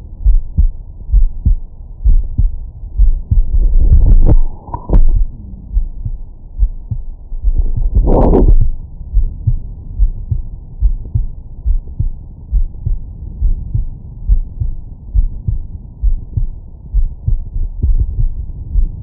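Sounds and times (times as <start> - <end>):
heartbeat thumps: 0.2 - 19.0.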